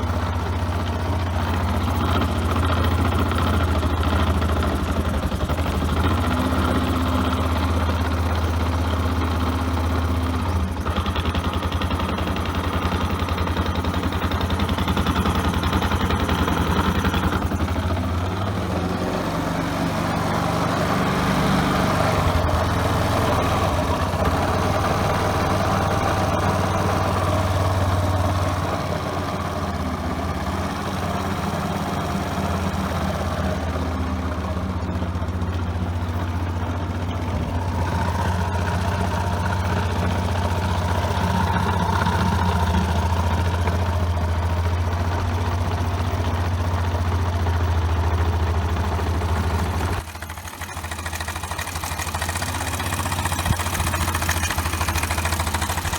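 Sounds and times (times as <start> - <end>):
scooter engine idling: 0.0 - 55.9.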